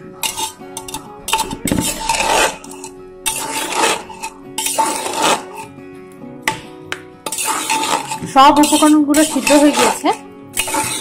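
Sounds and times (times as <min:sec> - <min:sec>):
metal spoon scraping a pot: 0:00.0 - 0:05.8, 0:07.2 - 0:11.0
background music: 0:00.0 - 0:11.0.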